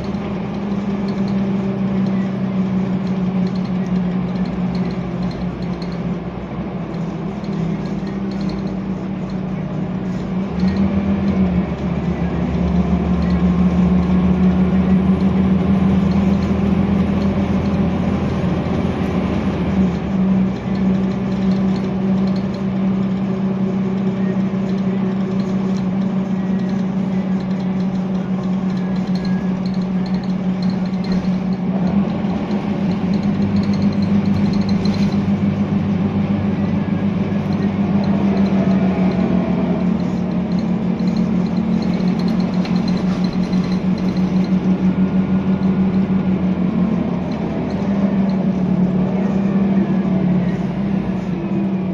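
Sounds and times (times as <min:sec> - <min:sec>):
bus engine droning: 0:00.0 - 0:51.9.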